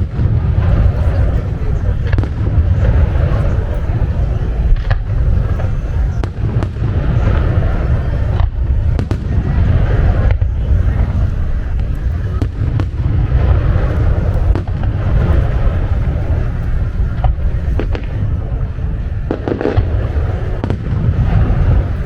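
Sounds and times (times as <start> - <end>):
firework cracks and pops: 0.0 - 22.0
fireworks booming: 0.0 - 22.0.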